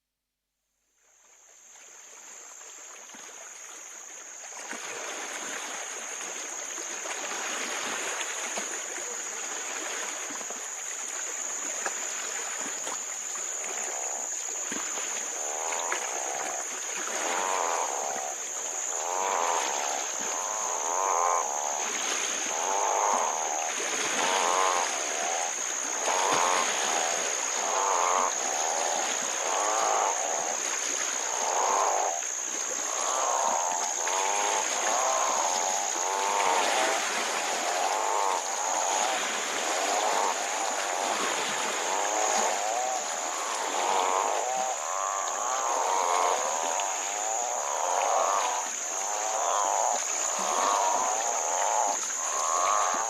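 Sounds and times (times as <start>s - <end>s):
frogs trilling croaks: 1.6s - 53.0s
high insect drone: 1.6s - 53.0s.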